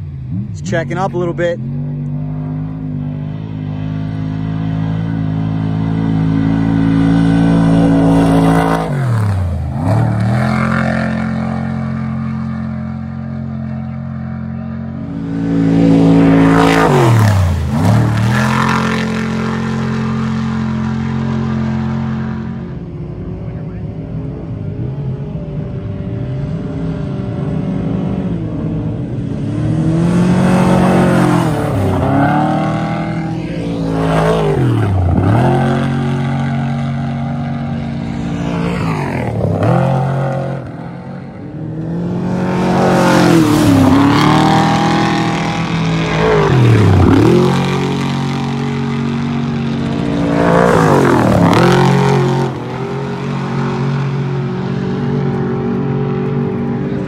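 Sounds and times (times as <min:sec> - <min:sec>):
race vehicles passing at speed: 0:00.0 - 0:57.0
steady engine drone: 0:00.0 - 0:57.0.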